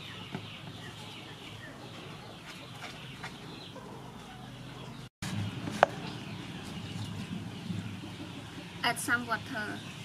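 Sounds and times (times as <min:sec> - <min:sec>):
birds calling: 0:00.0 - 0:10.0
chickens calling: 0:00.0 - 0:10.0.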